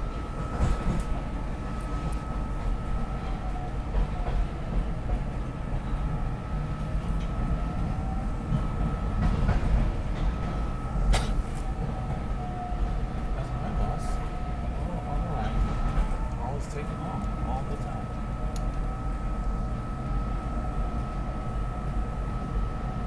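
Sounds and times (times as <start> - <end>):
train rumbling inside car: 0.0 - 23.0.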